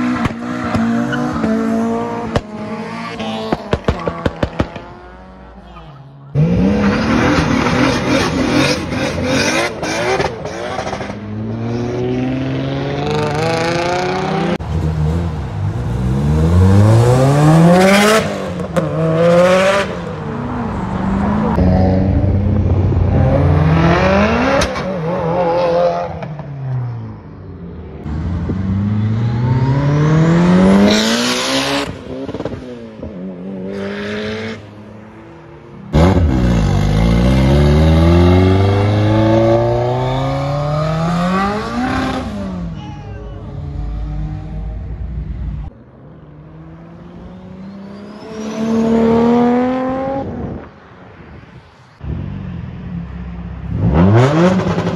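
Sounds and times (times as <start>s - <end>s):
sports car engines revving: 0.0s - 50.7s, 52.0s - 54.9s.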